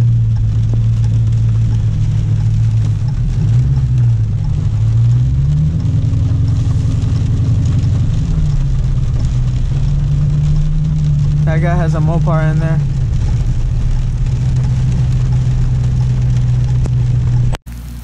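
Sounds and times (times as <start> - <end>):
car engine drone: 0.0 - 18.0.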